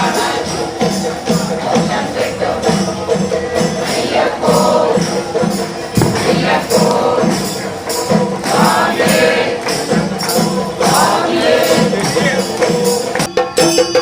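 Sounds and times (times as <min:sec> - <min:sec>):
voices singing: 0:00.0 - 0:13.3
jingling percussion: 0:00.0 - 0:14.0.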